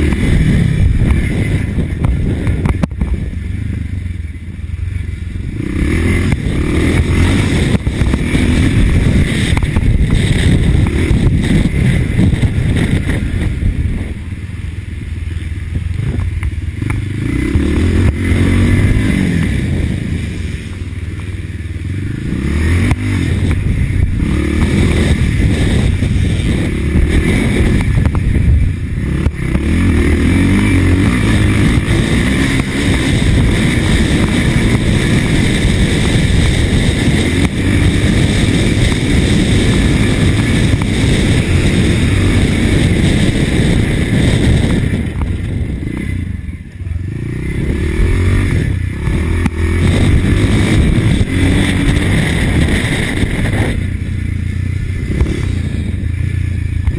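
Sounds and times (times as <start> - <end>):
motocross bike engine revving: 0.0 - 4.1, 4.8 - 14.7, 15.3 - 56.9.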